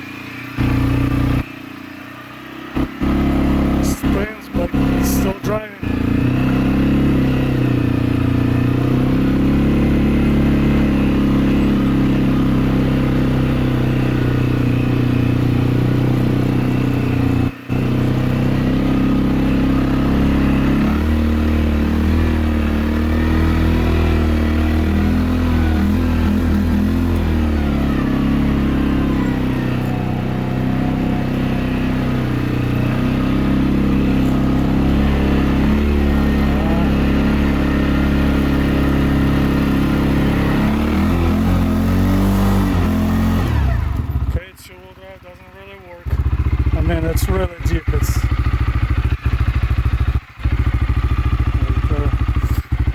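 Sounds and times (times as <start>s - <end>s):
atv engine running under load: 0.0s - 52.9s.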